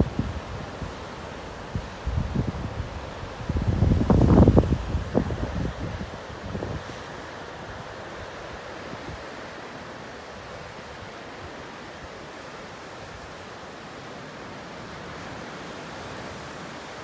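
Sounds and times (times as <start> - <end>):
steady rushing noise: 0.0 - 14.4.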